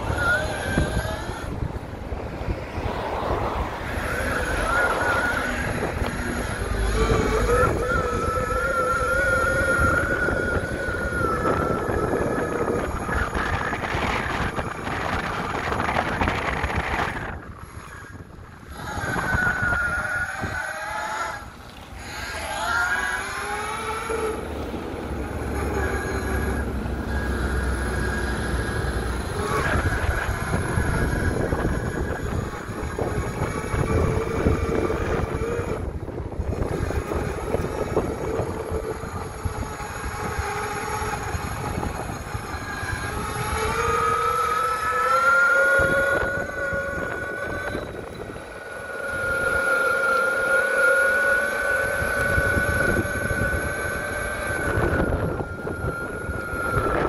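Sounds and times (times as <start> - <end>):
electric motors whining: 0.0 - 57.0
wheels rumbling on ground: 0.0 - 57.0.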